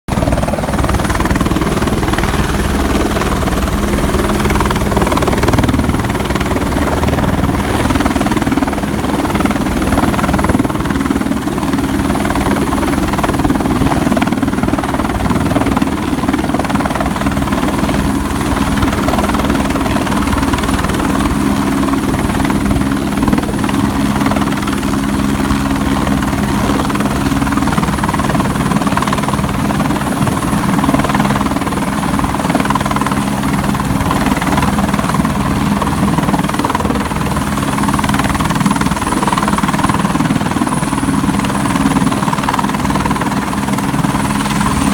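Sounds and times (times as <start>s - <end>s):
helicopter rotor beat: 0.1s - 44.9s
wind noise on microphone: 0.1s - 44.9s.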